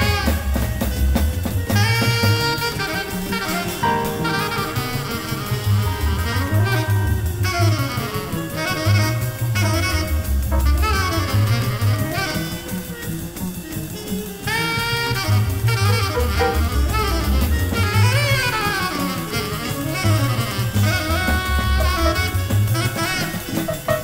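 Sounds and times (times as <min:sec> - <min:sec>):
double bass: 0:00.0 - 0:24.0
drum kit with cymbals: 0:00.0 - 0:24.0
tenor saxophone: 0:00.0 - 0:24.0.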